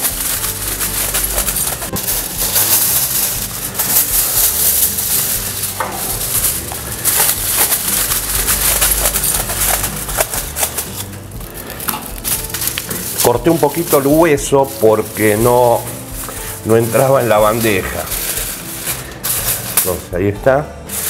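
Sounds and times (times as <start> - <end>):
aluminium foil crinkling: 0.0 - 20.2.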